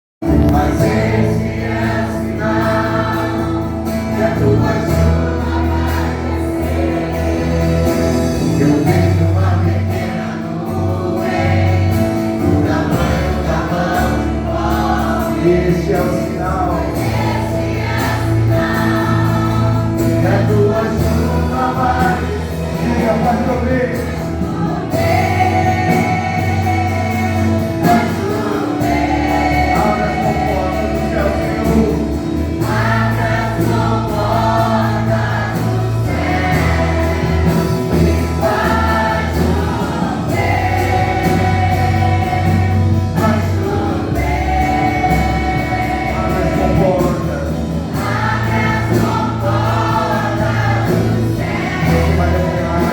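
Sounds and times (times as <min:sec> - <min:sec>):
band with steady bass line: 0:00.2 - 0:52.9
choir singing: 0:00.2 - 0:52.9.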